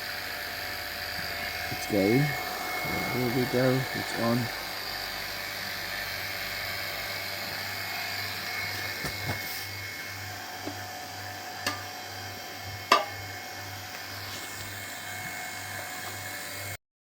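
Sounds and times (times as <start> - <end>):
vacuum pump running: 0.0 - 16.8.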